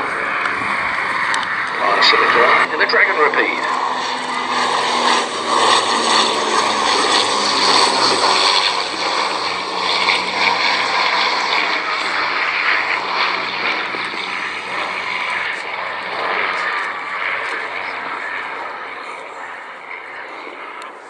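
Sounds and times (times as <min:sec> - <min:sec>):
propeller plane drone: 0:00.0 - 0:21.0.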